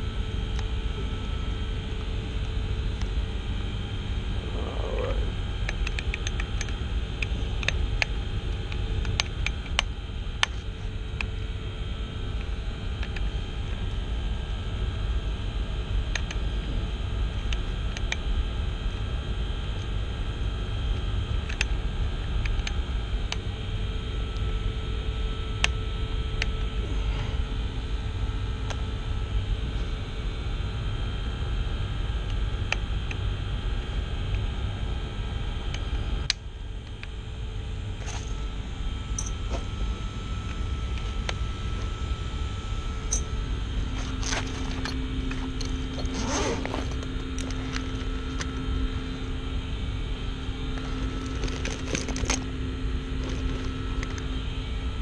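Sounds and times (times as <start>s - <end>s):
hvac machinery rumble and hiss: 0.0s - 55.0s.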